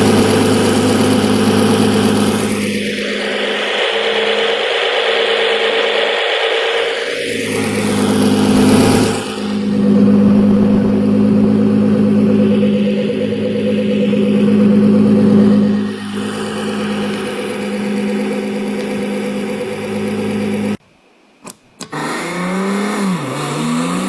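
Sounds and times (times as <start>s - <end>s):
car engine revving: 0.0s - 20.8s, 21.9s - 24.0s.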